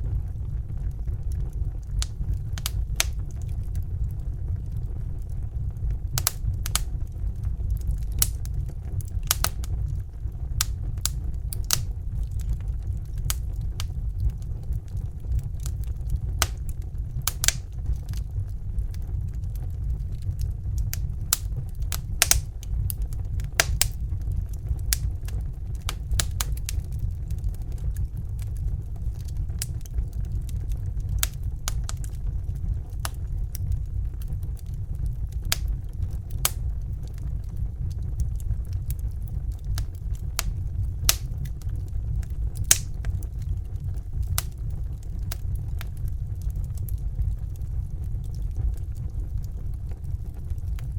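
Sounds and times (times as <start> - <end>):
bunsen burner flame roaring: 0.0 - 50.9
wood fire popping and crackling: 0.0 - 50.9.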